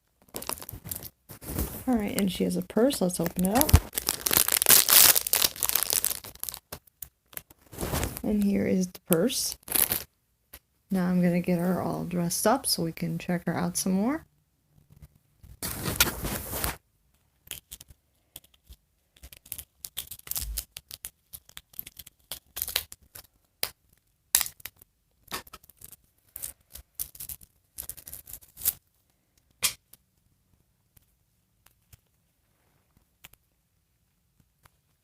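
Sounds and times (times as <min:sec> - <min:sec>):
doll clothes rustling and clicking: 0:00.0 - 0:10.7, 0:14.9 - 0:33.5.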